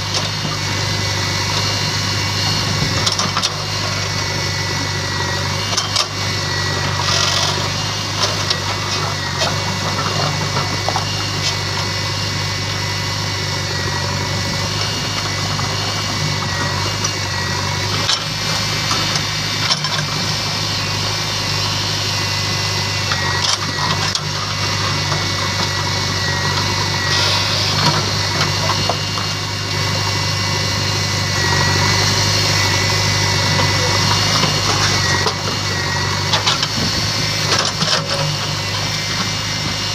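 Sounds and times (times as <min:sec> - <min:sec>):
diesel engines running: 0:00.0 - 0:39.9
thin steady whine: 0:00.0 - 0:39.9.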